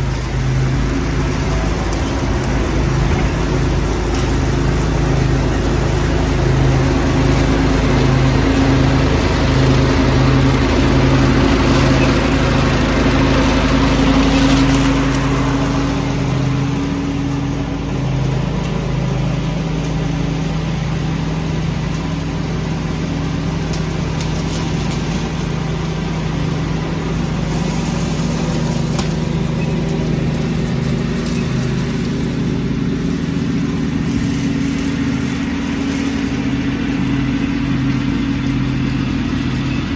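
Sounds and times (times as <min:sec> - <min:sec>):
rushing blower noise: 0:00.0 - 0:39.9
small engine running: 0:00.0 - 0:39.9.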